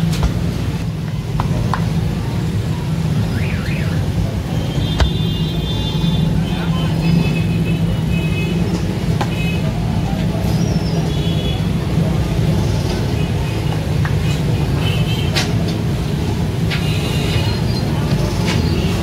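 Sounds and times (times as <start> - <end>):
street traffic engine rumble: 0.0 - 19.0.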